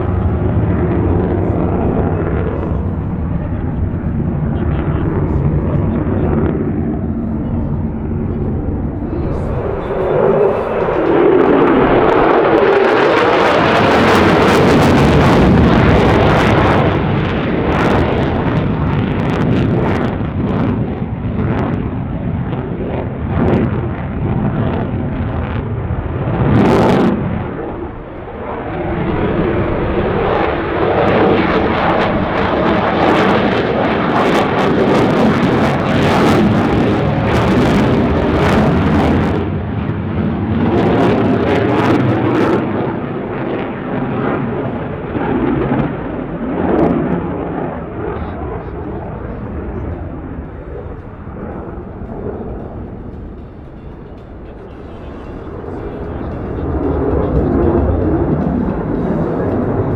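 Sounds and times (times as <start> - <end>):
fighter jet engine roaring: 0.0 - 59.9.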